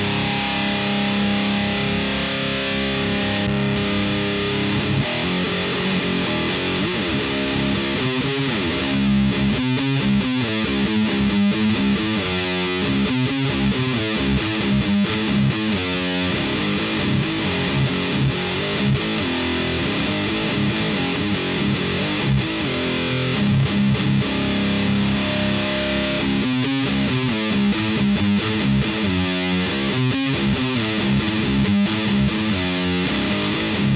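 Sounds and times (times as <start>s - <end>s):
distorted electric guitar riff: 0.0s - 33.9s.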